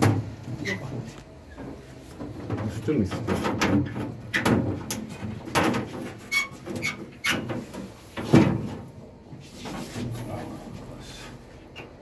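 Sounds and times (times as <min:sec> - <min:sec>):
knocks clicks and scraping of parts: 0:00.0 - 0:10.5.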